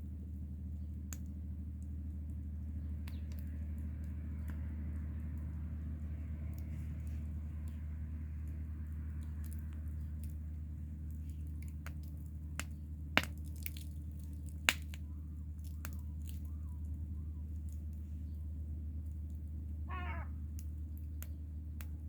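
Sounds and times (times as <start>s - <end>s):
steady low rumble: 0.0s - 22.0s
wood fire crackling: 0.4s - 19.7s.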